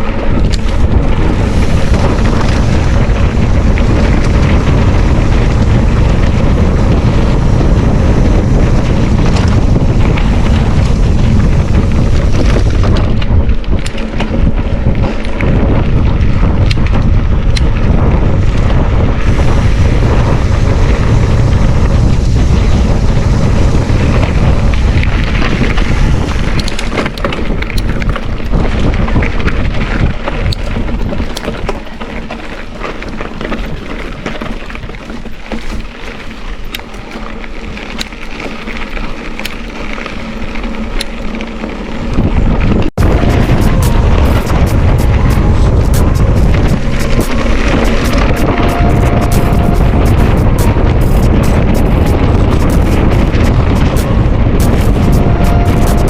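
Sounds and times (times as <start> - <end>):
wind buffeting the microphone: 0.0 - 56.0.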